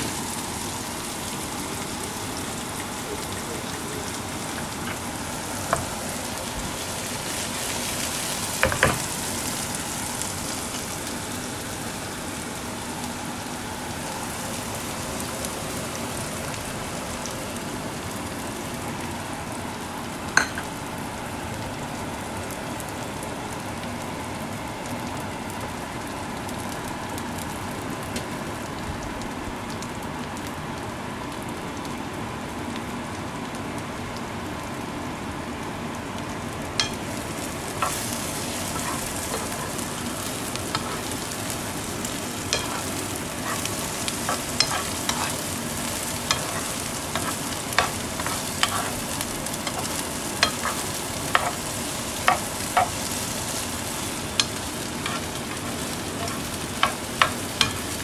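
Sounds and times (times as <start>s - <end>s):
food sizzling in oil: 0.0s - 28.7s, 35.4s - 58.0s.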